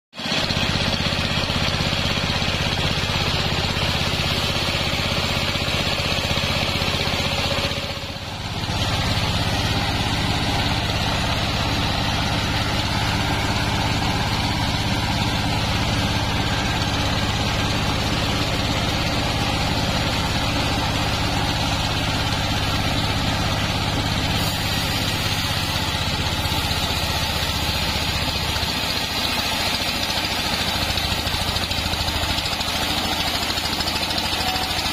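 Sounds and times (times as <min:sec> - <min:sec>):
stationary engine running: 0:00.2 - 0:34.9.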